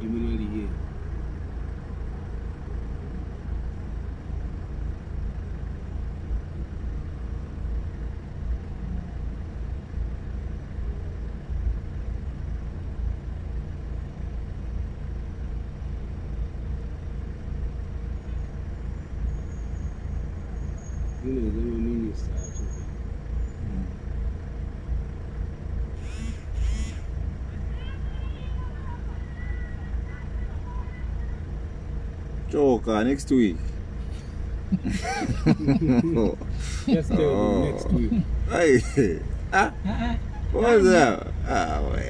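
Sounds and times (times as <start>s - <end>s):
vehicles driving past: 0.0s - 42.0s.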